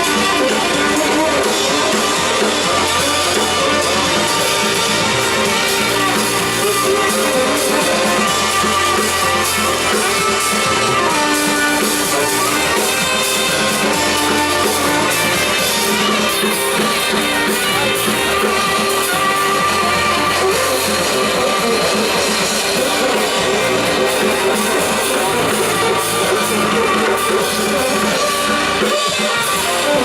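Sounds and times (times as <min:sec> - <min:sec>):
deep bass line: 0:00.0 - 0:28.9
drum groove: 0:00.0 - 0:30.0.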